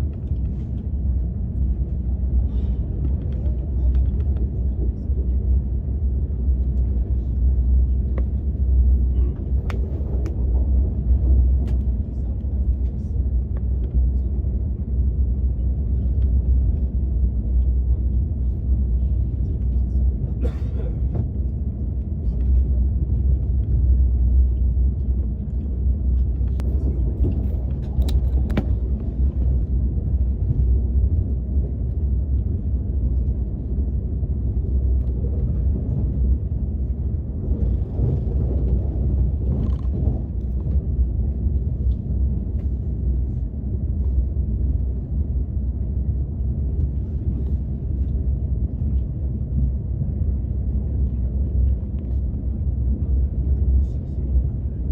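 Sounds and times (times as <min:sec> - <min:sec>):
train interior rumble: 0:00.0 - 0:54.9.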